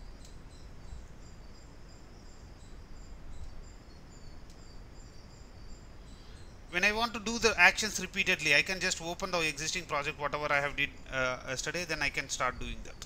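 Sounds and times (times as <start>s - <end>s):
faint high-pitched chirping: 0.0s - 13.0s
low steady hum: 0.0s - 13.0s.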